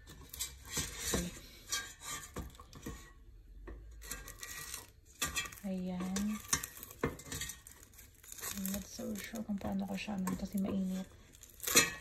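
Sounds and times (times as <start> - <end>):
metal tongs clinking and scraping: 0.0 - 3.1, 4.0 - 12.0.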